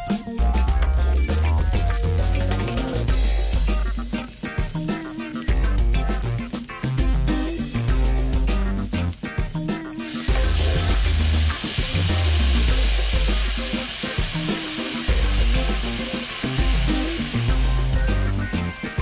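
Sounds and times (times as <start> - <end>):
background music with bass: 0.0 - 19.0
food sizzling in a frying pan: 0.0 - 19.0.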